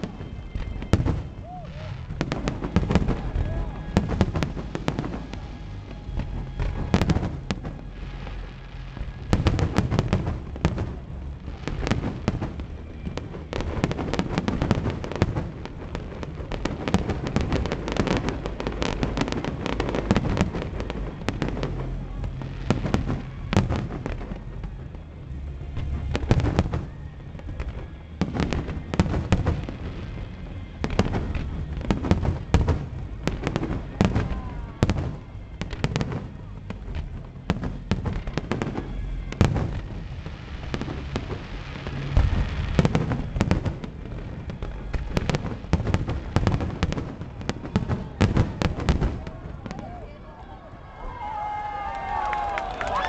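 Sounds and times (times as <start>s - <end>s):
deep firework booms: 0.0s - 49.9s
fireworks bangs and crackles: 0.0s - 53.0s.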